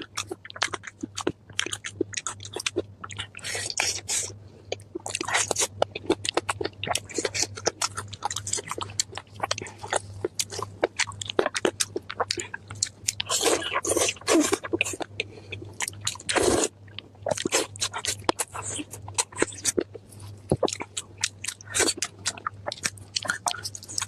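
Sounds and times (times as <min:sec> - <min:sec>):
chewing crisp food: 0:00.0 - 0:24.0.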